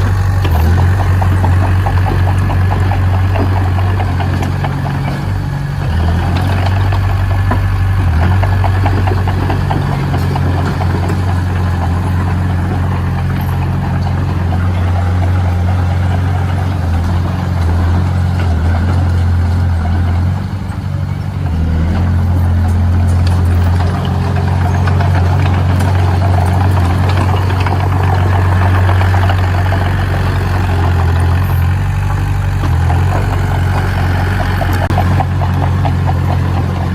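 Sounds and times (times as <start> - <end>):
continuous rattle: 0.0 - 36.9
heavy diesel engine running: 0.0 - 36.9.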